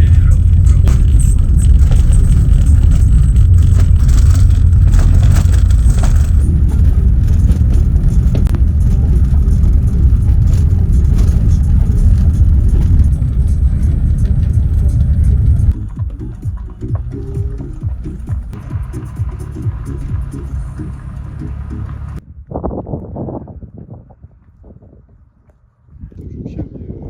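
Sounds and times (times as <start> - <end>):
vehicle engine rumble: 0.0 - 27.0.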